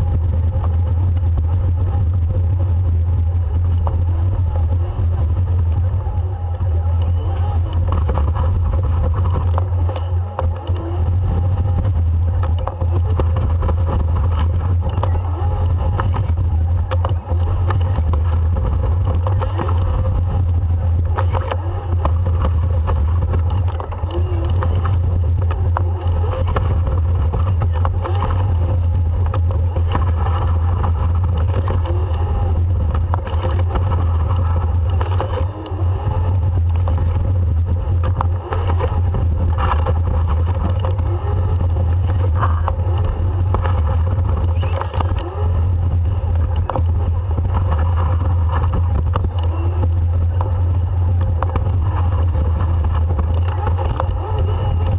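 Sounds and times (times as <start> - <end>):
truck engine and road rumble: 0.0 - 54.9.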